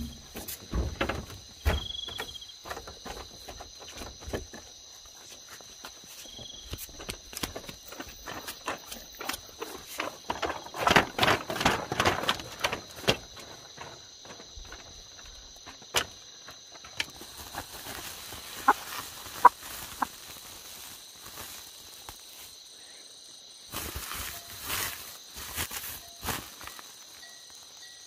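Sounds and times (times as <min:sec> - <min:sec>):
high-pitched insect chorus: 0:00.0 - 0:28.0
rustling footsteps on ground: 0:00.0 - 0:28.0.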